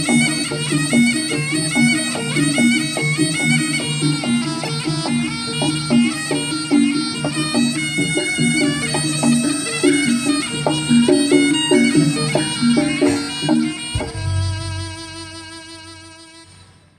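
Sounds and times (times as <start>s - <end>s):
rhythmic drum strikes: 0.0s - 15.6s
shrill reedy shawm melody: 0.0s - 16.9s.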